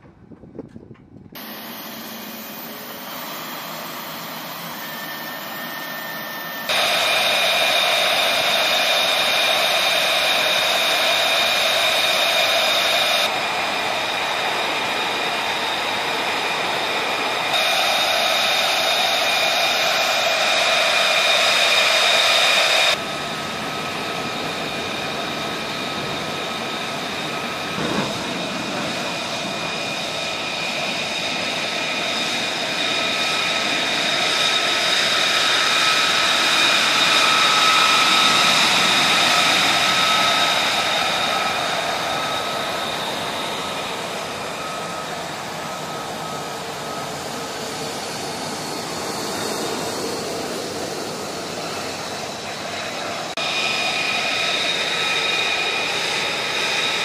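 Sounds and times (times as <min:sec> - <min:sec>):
jet engine whine: 0:00.0 - 0:57.0.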